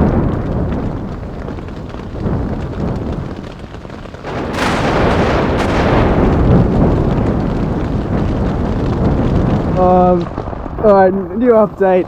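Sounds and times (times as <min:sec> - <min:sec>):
rumbling thunder: 0:00.0 - 0:12.0
steady rain: 0:00.0 - 0:12.0
thunderclap crack: 0:00.0 - 0:12.0.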